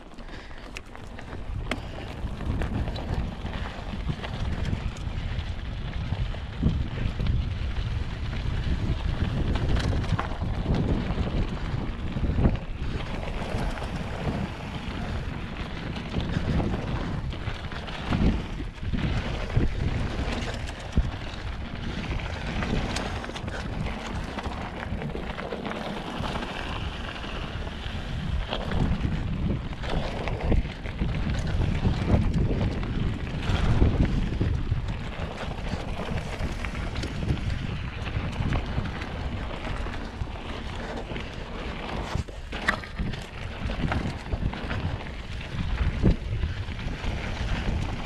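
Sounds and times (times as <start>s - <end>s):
bike rattling: 0.0s - 48.0s
bike tyres crunching on gravel: 0.0s - 48.0s
wind buffeting microphone: 0.0s - 48.0s.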